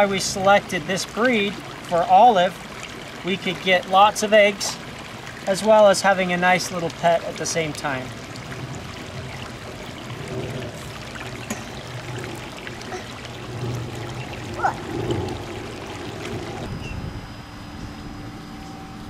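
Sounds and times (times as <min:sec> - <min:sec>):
water trickling in pond: 0:00.0 - 0:19.0.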